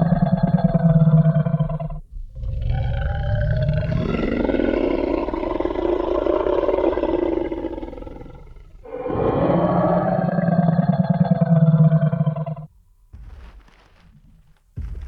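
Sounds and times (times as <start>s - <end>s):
deep dinosaur roar: 0.0s - 12.7s
growl: 0.0s - 12.7s.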